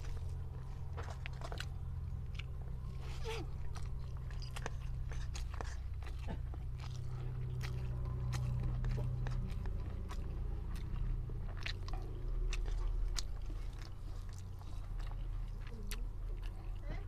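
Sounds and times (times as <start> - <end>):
chewing with small clicks: 0.0 - 17.0
steady low hum: 0.0 - 17.0.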